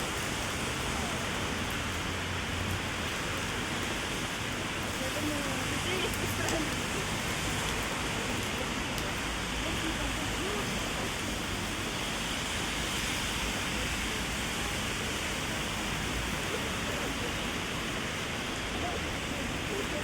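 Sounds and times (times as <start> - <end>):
heavy rain on street: 0.0 - 20.0
rain on an umbrella: 0.0 - 20.0.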